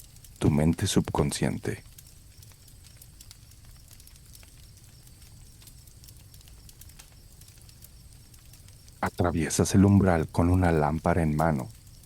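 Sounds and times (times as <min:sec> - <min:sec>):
campfire crackling: 0:00.0 - 0:12.0
crickets chirping: 0:00.0 - 0:12.0.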